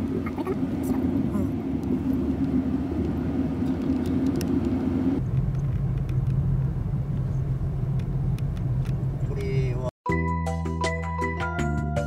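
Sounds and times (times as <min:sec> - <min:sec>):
car engine and road rumble: 0:00.0 - 0:09.9.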